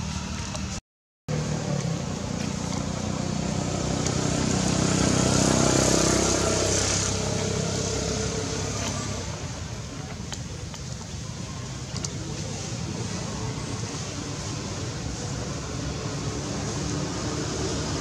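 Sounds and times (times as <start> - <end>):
vehicle engine passing by: 0.0 - 9.7, 12.4 - 18.0.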